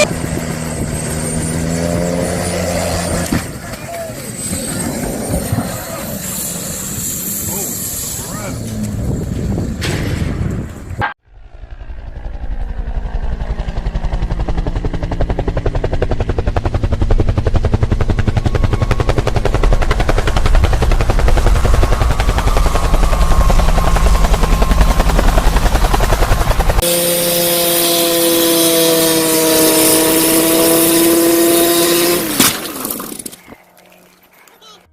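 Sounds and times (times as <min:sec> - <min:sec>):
helicopter rotor blades chopping: 0:00.0 - 0:34.8.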